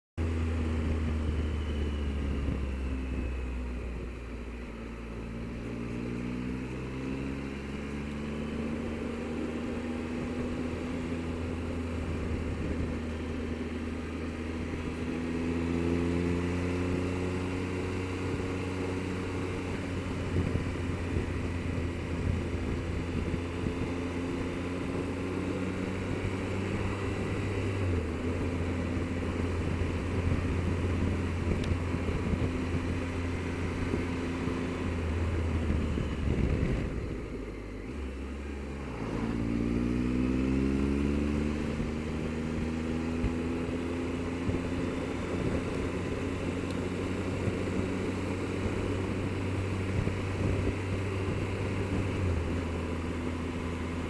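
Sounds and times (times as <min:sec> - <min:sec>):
motorcycle engine running: 0:00.2 - 0:54.0
wind and road noise: 0:00.2 - 0:54.0.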